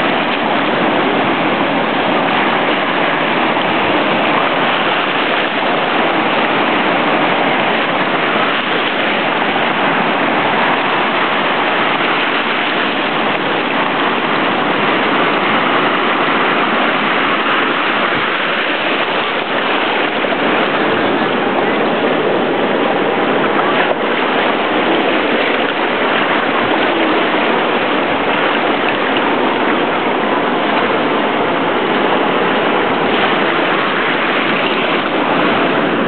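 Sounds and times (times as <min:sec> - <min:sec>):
surf breaking on beach: 0:00.0 - 0:36.0.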